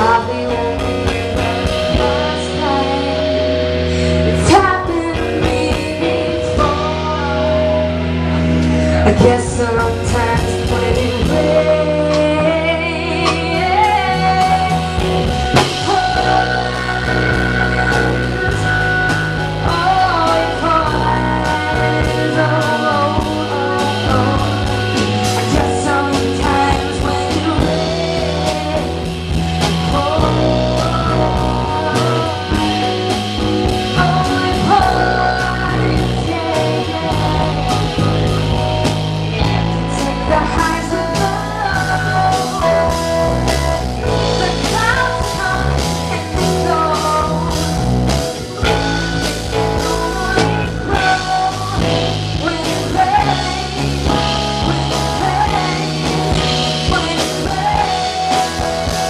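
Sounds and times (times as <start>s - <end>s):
drum kit beat: 0.0s - 59.0s
electric guitar: 0.0s - 59.0s
keyboard: 0.0s - 59.0s
woman singing lead vocal: 0.0s - 59.0s.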